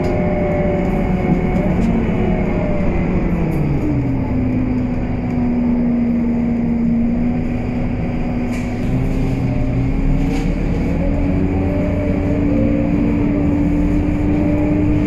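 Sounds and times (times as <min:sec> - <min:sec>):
bus engine whine and rumble: 0:00.0 - 0:15.0.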